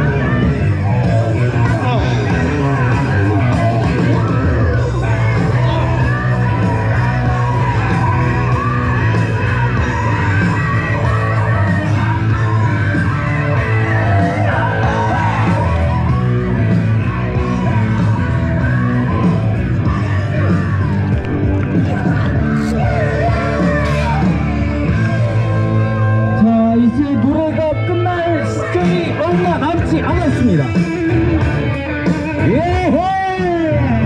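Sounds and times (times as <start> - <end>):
people yelling: 0.0 - 31.4
rock song over loudspeakers: 0.0 - 34.0.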